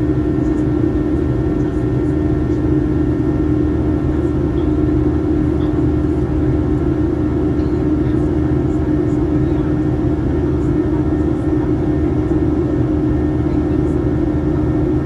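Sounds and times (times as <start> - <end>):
jet engine drone in cabin: 0.0 - 15.0.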